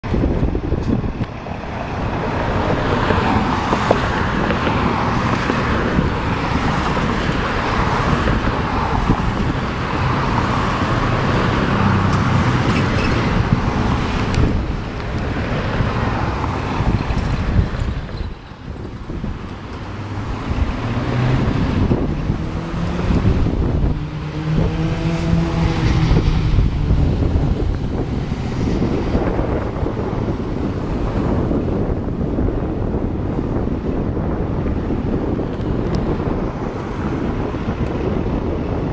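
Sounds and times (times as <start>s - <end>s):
vehicle engine and road noise: 0.0s - 38.9s
wind buffeting microphone: 0.0s - 38.9s.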